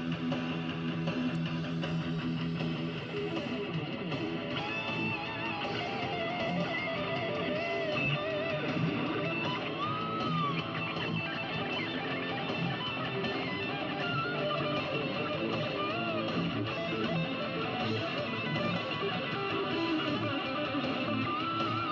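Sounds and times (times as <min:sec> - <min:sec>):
guitar background music: 0:00.0 - 0:21.9.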